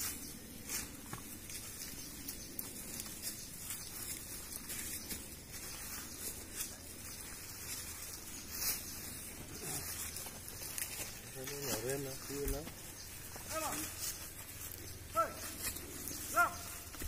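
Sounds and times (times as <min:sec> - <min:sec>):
dry leaves crunching underfoot: 0:00.0 - 0:17.0.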